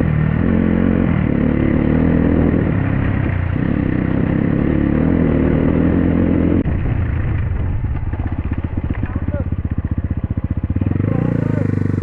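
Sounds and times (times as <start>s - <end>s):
dirt bike engine: 0.0s - 12.0s.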